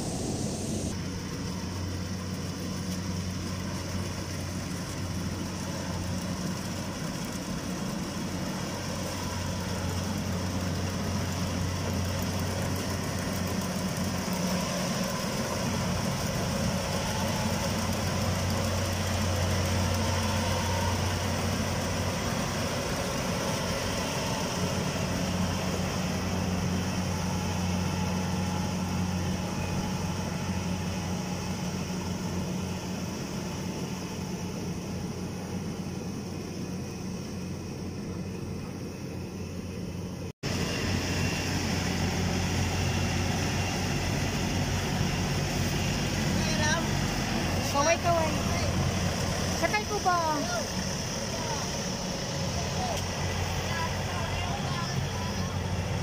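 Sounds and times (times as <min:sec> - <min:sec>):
combine harvester engine drone: 0:00.0 - 0:56.0.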